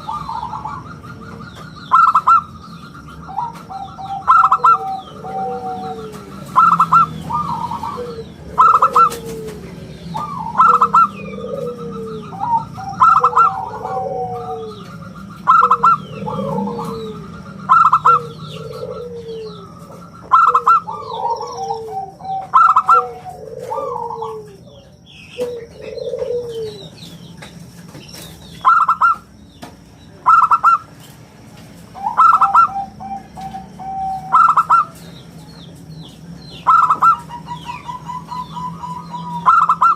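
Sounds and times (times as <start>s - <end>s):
dove cooing: 0.0s - 27.4s, 28.2s - 29.4s, 30.1s - 30.9s, 31.9s - 39.9s
small birds chirping faintly: 0.0s - 39.9s.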